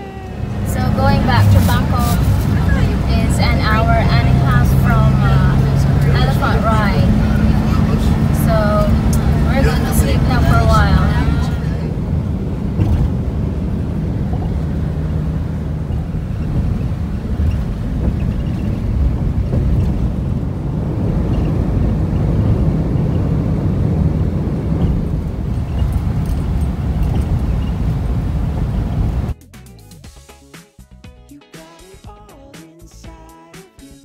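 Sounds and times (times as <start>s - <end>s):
engine and tyre rumble in cabin: 0.0s - 29.4s.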